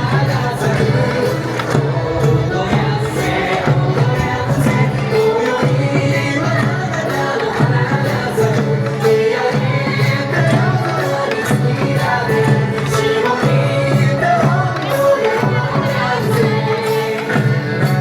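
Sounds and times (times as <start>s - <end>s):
person singing: 0.0s - 18.0s
steady drum beat: 0.0s - 18.0s.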